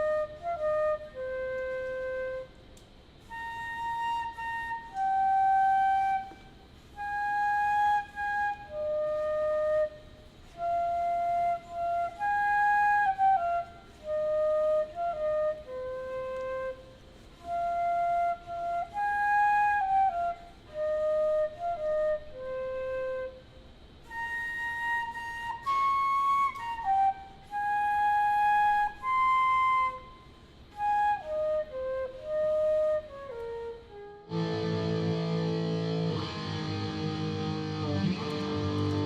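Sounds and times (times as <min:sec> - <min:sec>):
flute-like melody: 0:00.0 - 0:39.0.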